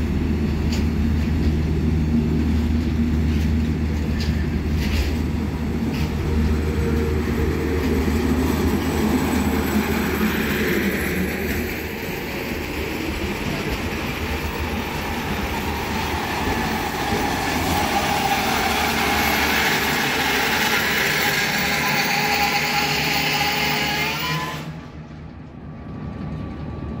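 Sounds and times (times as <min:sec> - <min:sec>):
freight train rumble and wheel noise: 0:00.0 - 0:27.0.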